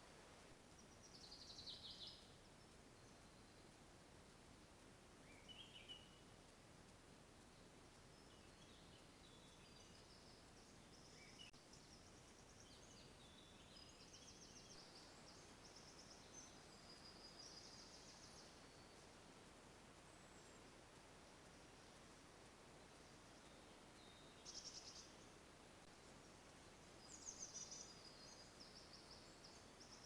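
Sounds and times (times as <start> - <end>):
songbirds chirping and trilling: 0.0 - 30.0
steady low hiss: 0.0 - 30.0.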